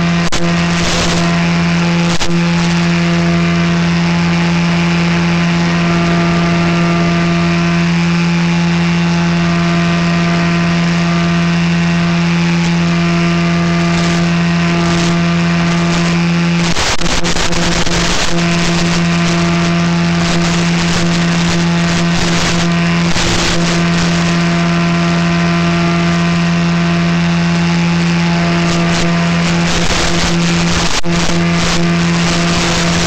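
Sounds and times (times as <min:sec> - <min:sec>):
model motor and propeller drone: 0:00.0 - 0:33.0.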